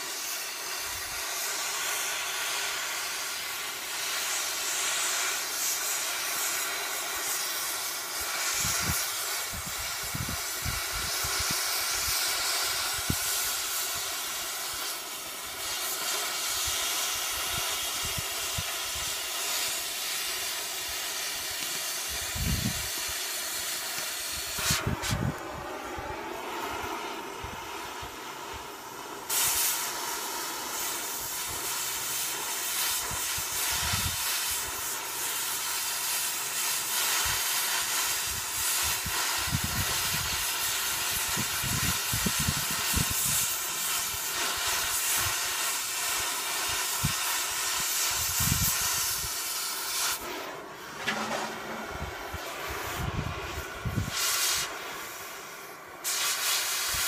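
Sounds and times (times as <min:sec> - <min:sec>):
cutting torch hissing: 0:00.0 - 0:57.0.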